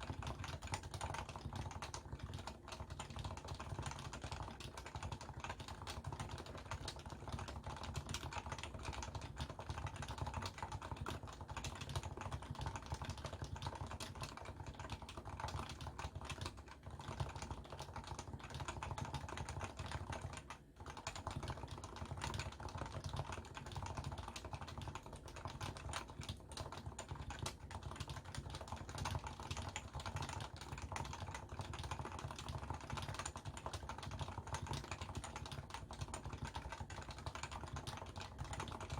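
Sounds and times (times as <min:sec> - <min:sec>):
keyboard typing: 0:00.0 - 0:38.9.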